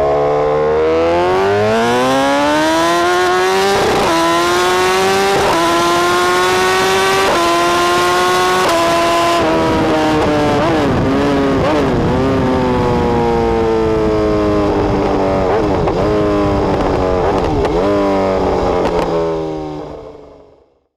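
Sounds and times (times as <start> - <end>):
motorcycle engine accelerating: 0.0 - 20.8.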